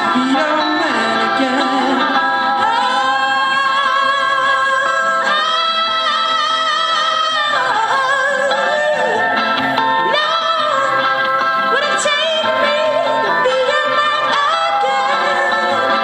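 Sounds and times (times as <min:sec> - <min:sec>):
guitar accompaniment: 0:00.0 - 0:16.0.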